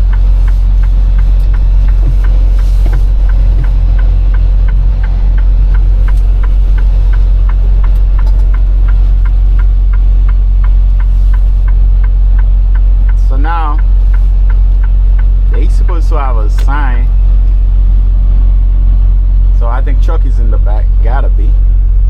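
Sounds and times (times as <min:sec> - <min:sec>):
turn signal clicking: 0:00.0 - 0:18.2
truck engine droning: 0:00.0 - 0:22.0.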